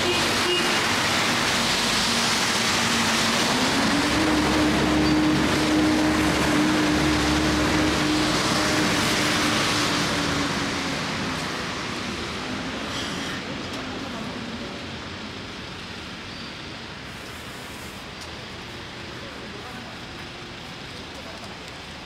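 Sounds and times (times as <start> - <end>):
engine drone: 0.0 - 22.0
tyres hissing on wet road: 0.0 - 22.0.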